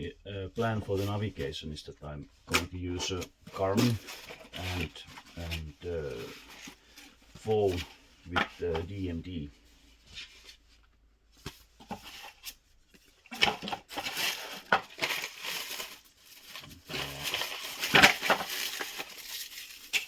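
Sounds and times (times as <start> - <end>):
packaging crinkling and rustling: 2.5 - 20.0.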